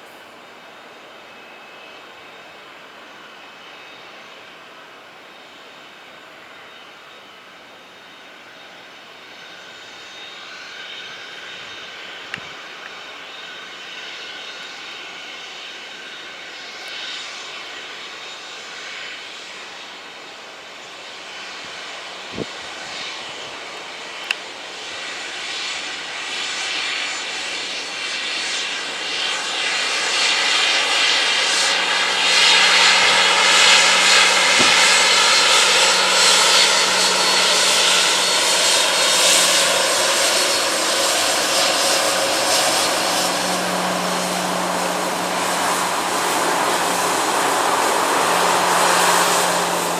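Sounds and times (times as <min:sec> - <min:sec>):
jet engines roaring and whining: 0:00.0 - 0:49.9.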